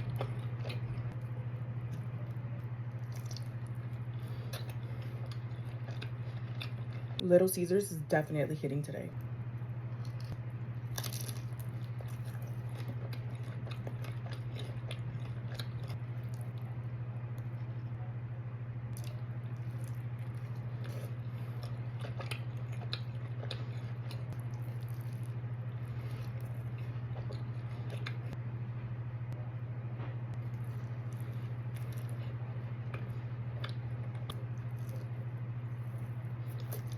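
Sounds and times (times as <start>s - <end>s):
chewing and biting pizza: 0.0s - 7.2s, 9.9s - 16.8s, 18.9s - 28.4s, 30.3s - 36.9s
low hum: 0.0s - 36.9s.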